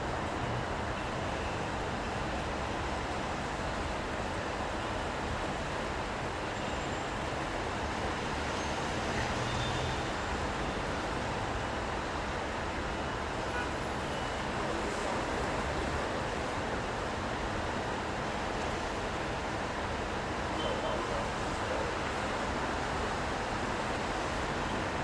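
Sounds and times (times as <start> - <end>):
city traffic passing: 0.0 - 25.0.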